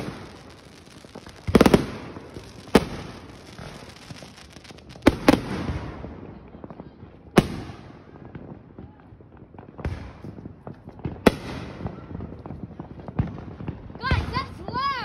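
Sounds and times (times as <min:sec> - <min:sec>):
firework crackling: 0:00.0 - 0:06.2, 0:07.2 - 0:15.0.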